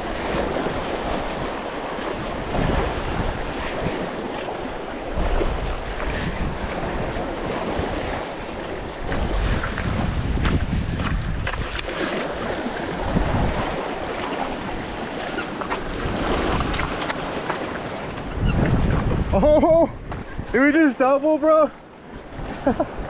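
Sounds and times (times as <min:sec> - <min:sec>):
wind buffeting microphone: 0:00.0 - 0:21.0, 0:21.6 - 0:23.0
surf washing against rocks: 0:00.0 - 0:23.0.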